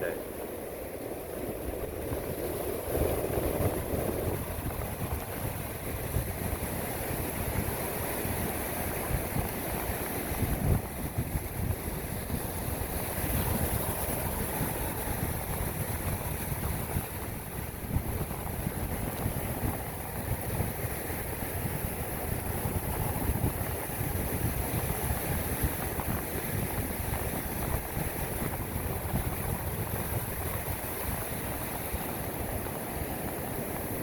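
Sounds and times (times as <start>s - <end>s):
ocean surf: 0.0s - 34.0s
wind buffeting microphone: 0.0s - 34.0s.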